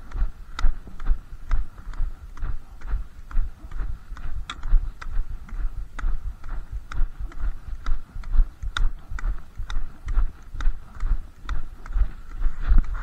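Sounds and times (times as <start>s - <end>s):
footsteps on snow: 0.0s - 13.0s
walking pole tips clicking: 0.0s - 13.0s.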